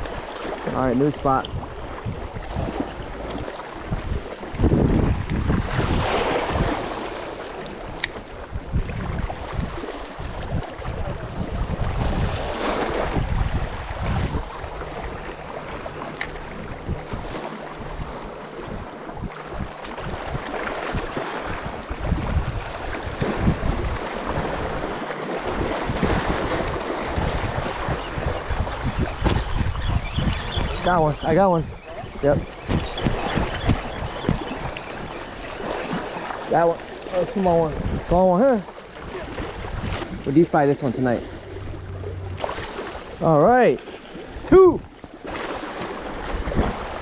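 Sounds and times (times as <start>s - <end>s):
wind buffeting microphone: 0.0s - 7.1s, 7.7s - 47.0s
lake water lapping: 0.0s - 47.0s.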